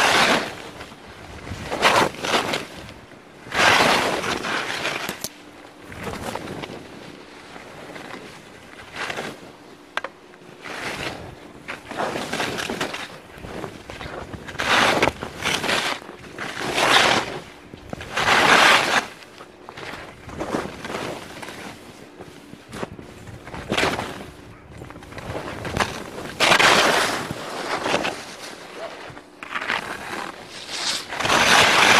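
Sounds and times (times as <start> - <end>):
skis scraping through snow: 0.0 - 5.2, 5.8 - 9.7, 10.4 - 31.9.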